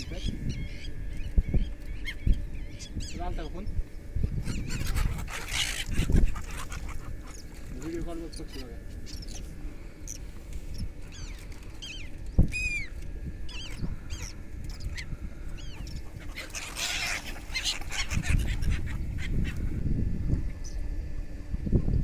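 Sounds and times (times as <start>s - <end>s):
birds chirping and whistling: 0.0s - 19.8s.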